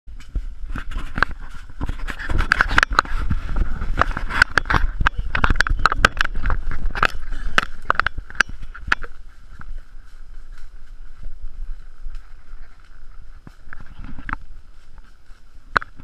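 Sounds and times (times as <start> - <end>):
branches scraping against camera: 0.1 - 16.0.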